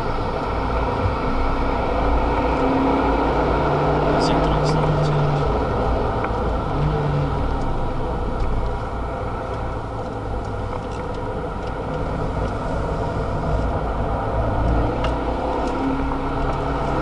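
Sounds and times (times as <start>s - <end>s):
car engine under load: 0.0s - 17.0s
tyre and road noise: 0.0s - 17.0s.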